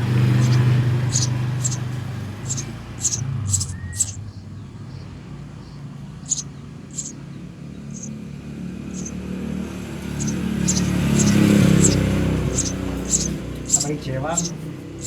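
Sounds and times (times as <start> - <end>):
sparrow chicks chirping: 0.0 - 15.0
vehicle engine rumble: 0.0 - 15.0.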